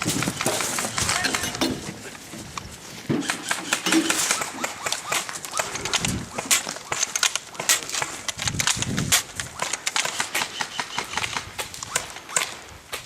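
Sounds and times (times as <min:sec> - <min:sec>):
airsoft guns firing: 0:00.0 - 0:01.6, 0:03.1 - 0:13.0.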